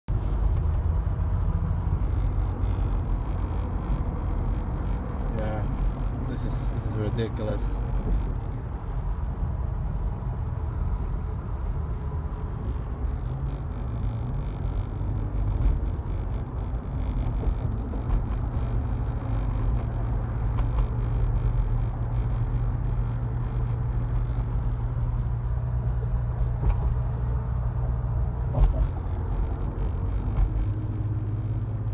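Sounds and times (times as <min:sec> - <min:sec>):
vehicle driving low drone: 0:00.1 - 0:31.9.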